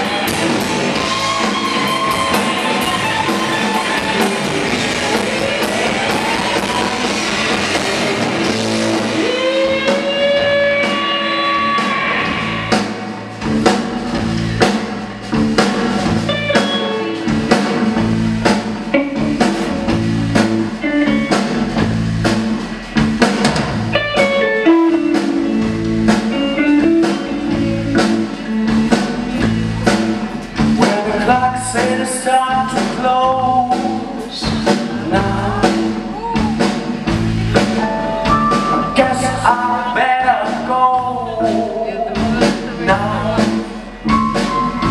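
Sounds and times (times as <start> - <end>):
blues-rock band playing: 0.0 - 44.9
steady drum beat: 0.0 - 44.9.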